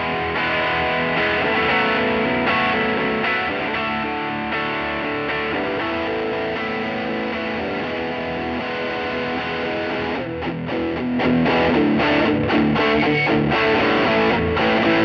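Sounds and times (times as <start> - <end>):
overdriven electric guitar chords: 0.0 - 15.0.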